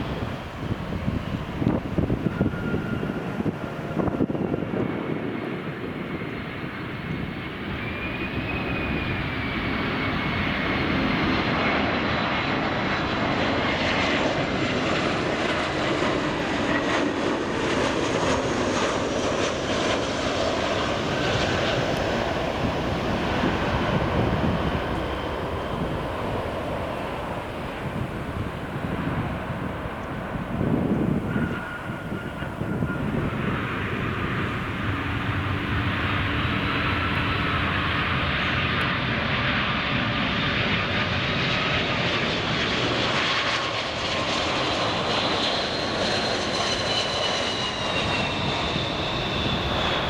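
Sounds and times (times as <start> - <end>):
faint high engine whine: 0.0 - 50.0
jet engines rushing: 0.0 - 50.0.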